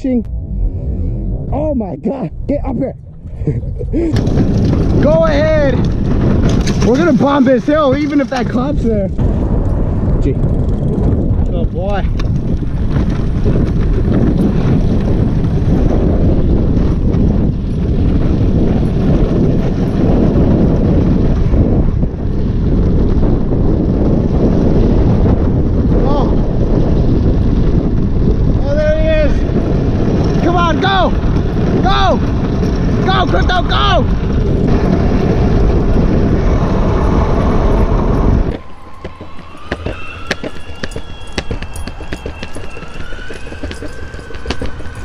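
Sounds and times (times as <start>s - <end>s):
wind buffeting microphone: 0.0s - 45.0s
scooter wheels rolling on asphalt: 4.1s - 45.0s.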